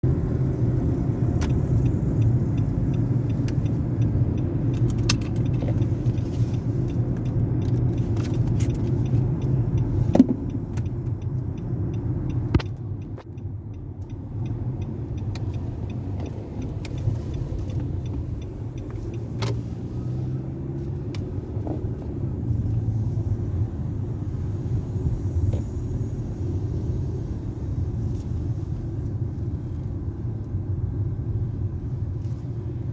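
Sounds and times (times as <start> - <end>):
car engine rumble: 0.0 - 32.9.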